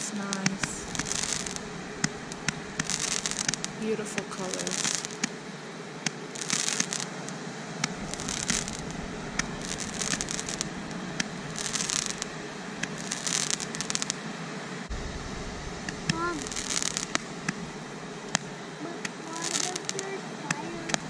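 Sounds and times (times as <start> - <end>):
roman candle shots popping: 0.0 - 14.2, 14.8 - 21.0
firework fizzing: 0.0 - 21.0.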